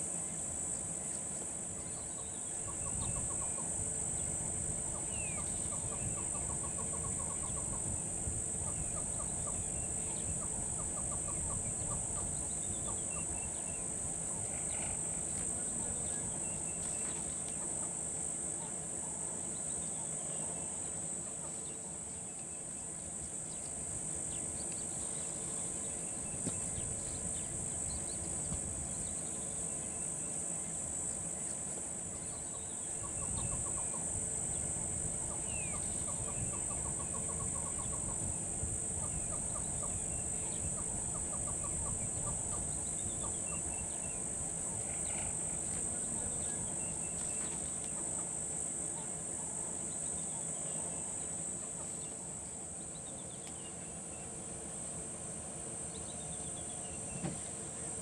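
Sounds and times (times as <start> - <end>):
insect chorus: 0.0 - 58.0.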